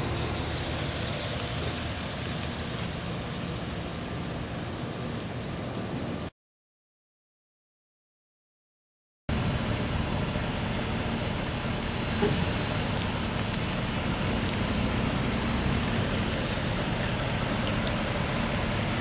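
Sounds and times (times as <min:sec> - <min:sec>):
vehicle engine running: 0:00.0 - 0:06.3, 0:09.3 - 0:19.0.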